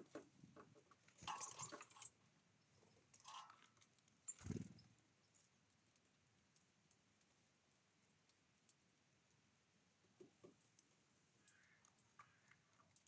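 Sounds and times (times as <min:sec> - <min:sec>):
birds scuffling and pecking seed: 0:00.0 - 0:13.0.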